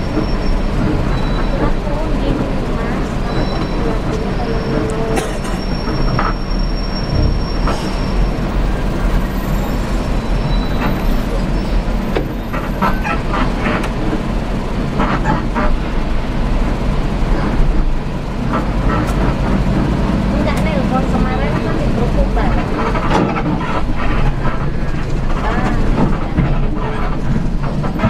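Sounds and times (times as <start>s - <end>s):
vehicle rumbling from inside: 0.0s - 28.0s.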